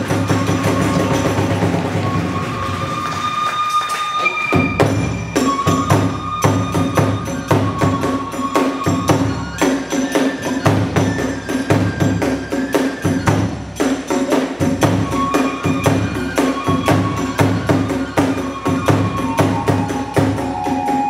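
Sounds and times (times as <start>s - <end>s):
drum strokes: 0.0s - 3.7s, 4.4s - 21.0s
bamboo flute high notes: 0.0s - 21.0s
hand cymbals clashing: 0.0s - 21.0s.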